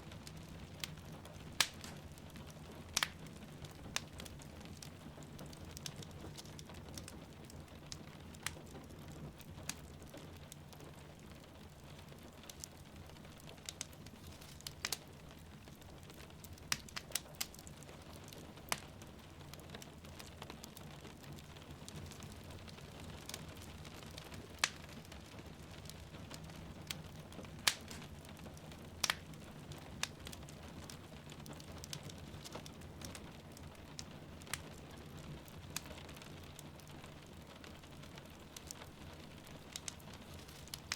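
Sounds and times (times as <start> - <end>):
steady rain: 0.0 - 40.9
wood fire crackling and popping: 0.0 - 40.9.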